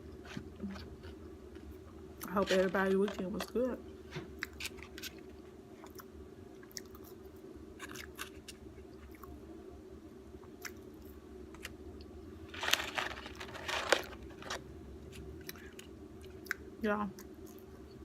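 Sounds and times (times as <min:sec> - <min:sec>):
person chewing and crunching food: 0:00.0 - 0:03.6, 0:04.2 - 0:09.4, 0:10.3 - 0:18.0
steady low hum: 0:00.0 - 0:18.0.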